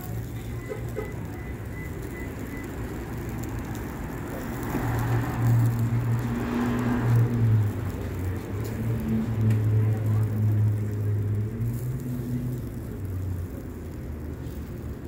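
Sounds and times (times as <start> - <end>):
street traffic: 0.0 - 15.0
vehicle passing: 0.0 - 15.0.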